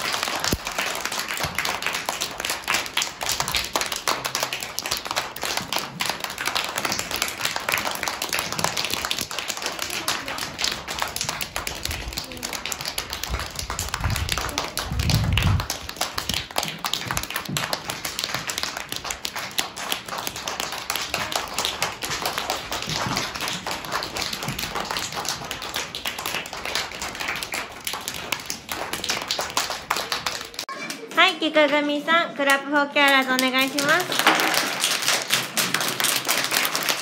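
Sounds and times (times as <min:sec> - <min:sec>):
children clapping hands: 0:00.0 - 0:31.2, 0:32.5 - 0:37.0.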